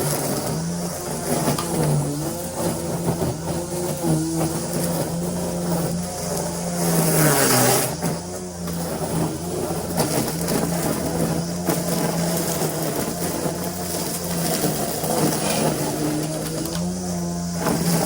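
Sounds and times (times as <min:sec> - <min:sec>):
lawn mower cutting grass: 0:00.0 - 0:18.0.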